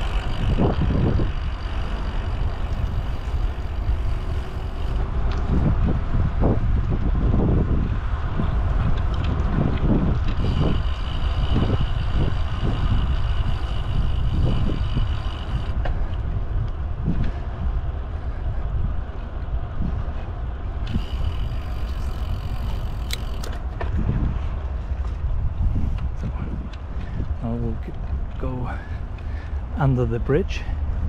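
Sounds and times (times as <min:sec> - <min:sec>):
road traffic: 0:00.0 - 0:31.0
wind buffeting microphone: 0:00.0 - 0:31.0.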